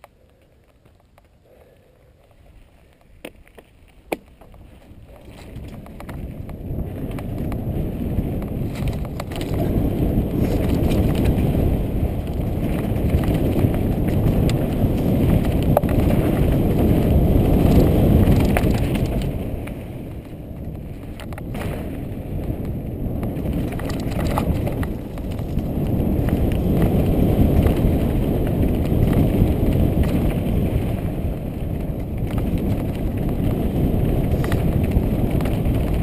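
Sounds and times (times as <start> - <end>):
wind buffeting microphone: 4.1 - 36.0.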